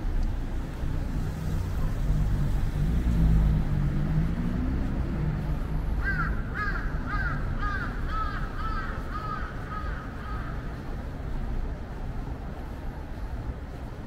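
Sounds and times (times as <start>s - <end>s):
low rumble of street noise: 0.0s - 14.0s.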